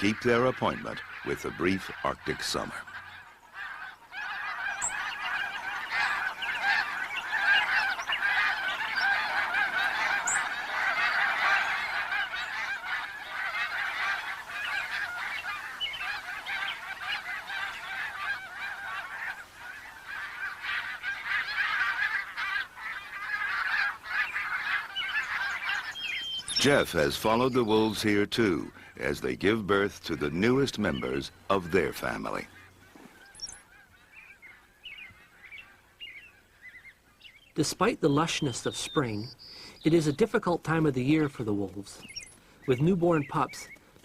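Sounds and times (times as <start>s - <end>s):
flock of geese honking: 0.0s - 44.0s.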